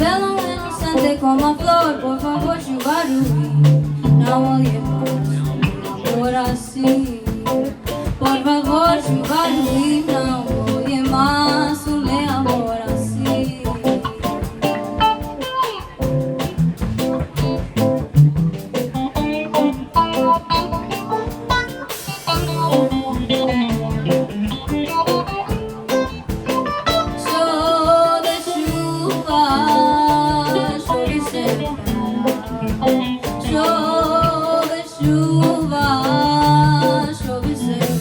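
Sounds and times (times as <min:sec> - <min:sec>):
plucked guitar: 0:00.0 - 0:38.0
samba-style instrumental music: 0:00.0 - 0:38.0.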